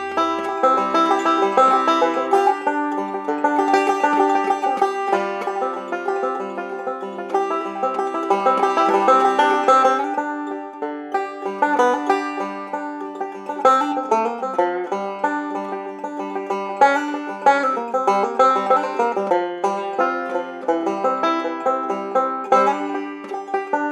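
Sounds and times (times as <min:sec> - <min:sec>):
bluegrass plucked string music: 0:00.0 - 0:23.9.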